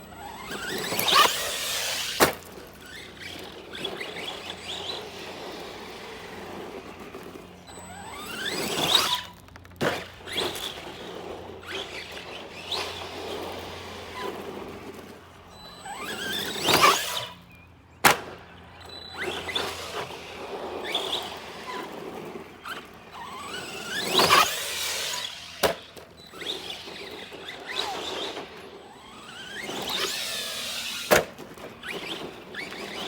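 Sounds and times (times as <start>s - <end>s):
electric motor revving whine: 0.0s - 33.0s.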